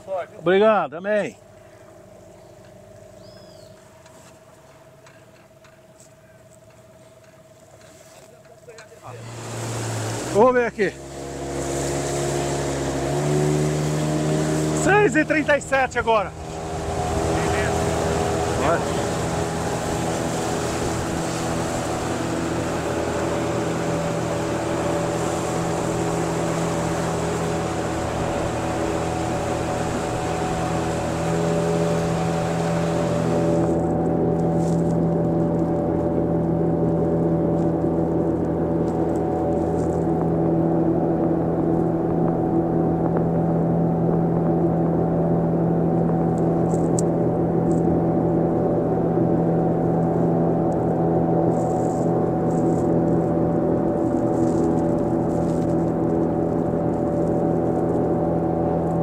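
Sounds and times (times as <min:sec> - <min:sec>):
outboard motor running: 0:00.0 - 0:59.0
wind and water noise: 0:00.0 - 0:59.0.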